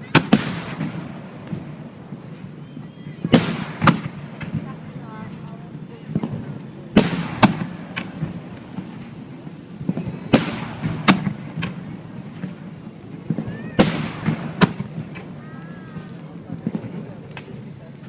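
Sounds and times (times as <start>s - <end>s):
firework shells bursting: 0.0s - 17.8s
rolling echo: 0.0s - 18.0s.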